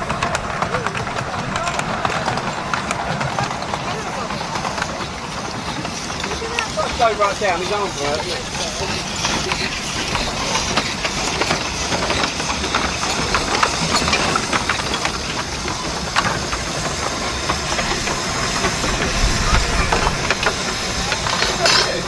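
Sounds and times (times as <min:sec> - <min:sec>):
steam locomotives hissing: 0:00.0 - 0:22.0.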